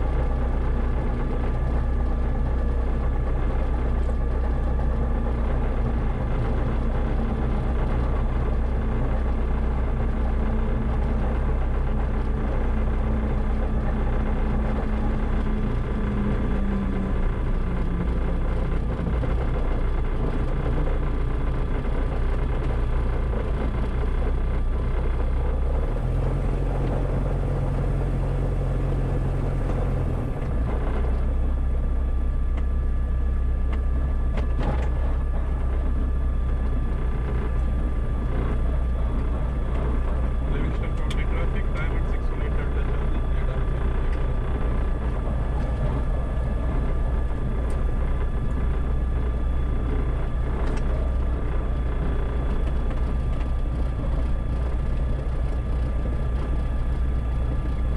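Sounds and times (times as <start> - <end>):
light aircraft engine and propeller drone: 0.0 - 57.9.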